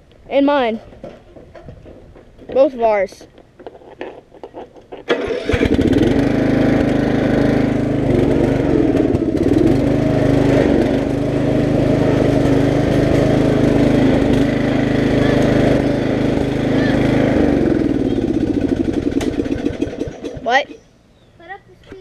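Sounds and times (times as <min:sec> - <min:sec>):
riding lawn mower engine: 0:04.0 - 0:22.0.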